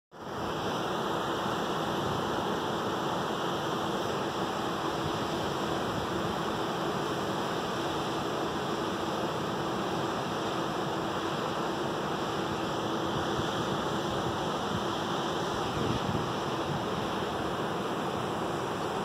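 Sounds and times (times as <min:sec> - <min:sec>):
faint steady hum: 0:00.2 - 0:19.0
waterfall rushing over rocks: 0:00.2 - 0:19.0.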